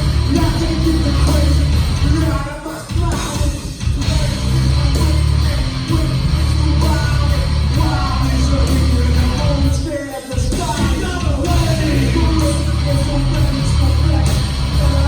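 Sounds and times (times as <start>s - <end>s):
heavy rock band playing: 0.0s - 15.0s.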